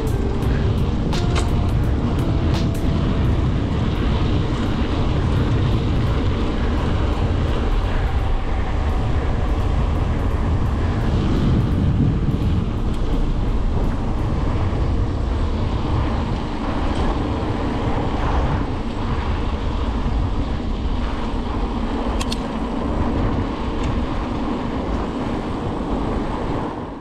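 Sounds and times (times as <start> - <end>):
bike tyres rolling on rough track: 0.0 - 26.9
wind rushing over microphone: 0.0 - 27.0.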